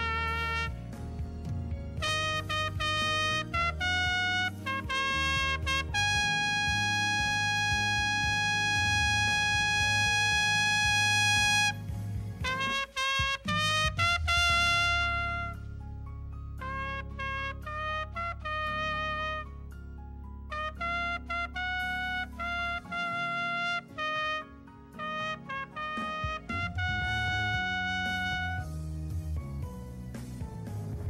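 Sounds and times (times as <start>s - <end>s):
solo trumpet melody: 0.0s - 1.0s, 2.0s - 15.8s, 16.6s - 19.7s, 20.5s - 29.0s
low accompaniment: 0.0s - 19.7s, 20.4s - 31.0s.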